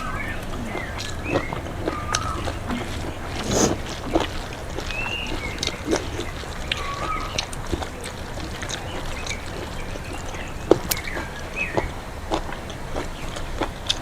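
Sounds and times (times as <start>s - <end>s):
bird chirps: 0.0s - 12.0s
wet eating sounds by hand: 0.0s - 14.0s.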